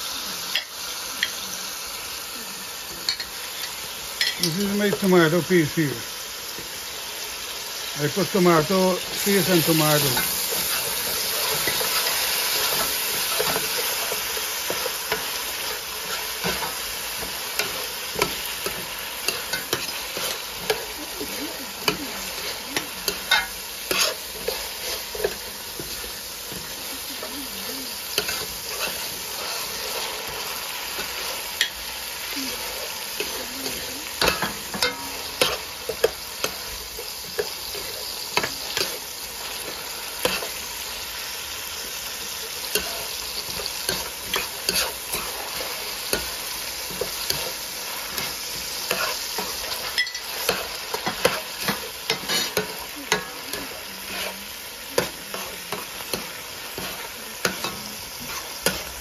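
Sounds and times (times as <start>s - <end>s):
tomatoes sizzling in oil: 0.0s - 59.0s.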